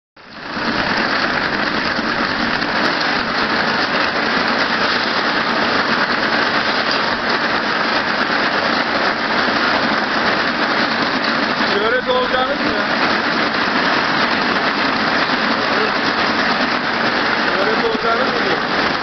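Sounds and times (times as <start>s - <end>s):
wire braiding machine running: 0.2s - 19.0s.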